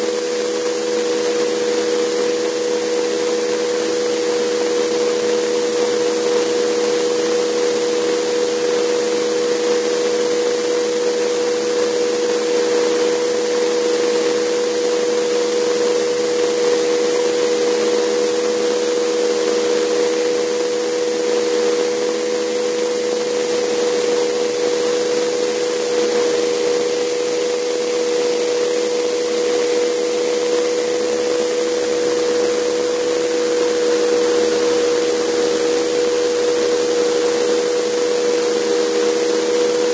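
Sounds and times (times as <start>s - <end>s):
helicopter turbine running: 0.0s - 39.9s.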